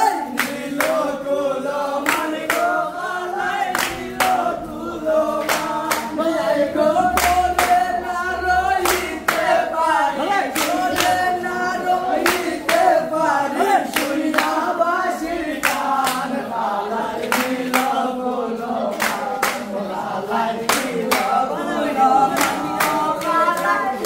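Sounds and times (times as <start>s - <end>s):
group of voices singing: 0.0s - 24.0s
rhythmic hand claps: 0.0s - 24.0s.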